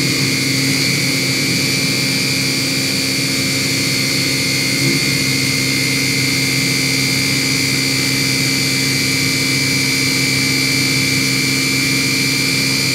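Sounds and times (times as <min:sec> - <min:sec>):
milling machine whine: 0:00.0 - 0:12.9.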